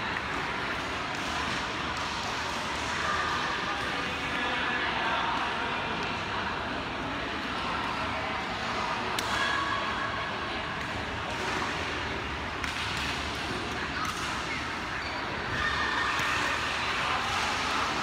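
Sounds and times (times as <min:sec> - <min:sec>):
hall background noise: 0:00.0 - 0:18.0.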